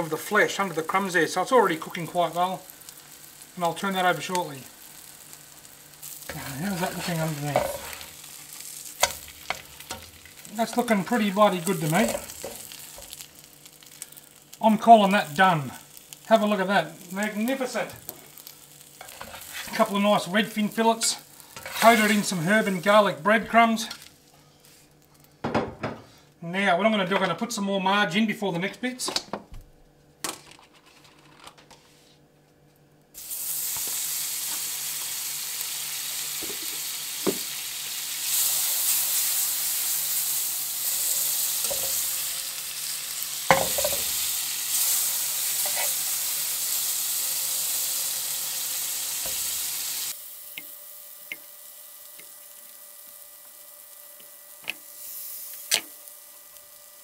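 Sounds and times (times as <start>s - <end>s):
margarine sizzling in frying pan: 0.0s - 24.3s, 33.2s - 57.0s.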